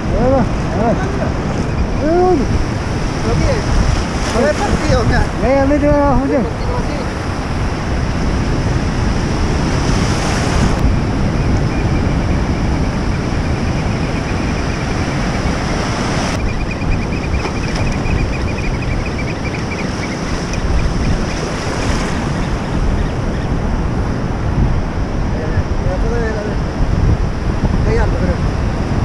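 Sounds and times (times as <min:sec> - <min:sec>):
ocean surf washing: 0:00.0 - 0:29.0
wind buffeting microphone: 0:00.0 - 0:29.0.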